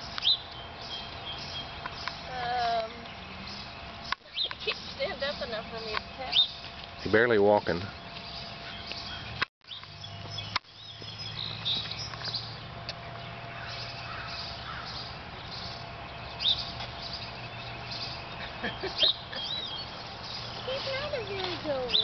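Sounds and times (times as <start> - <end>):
birds chirping: 0.0 - 22.0
low outdoor hum: 0.0 - 22.0.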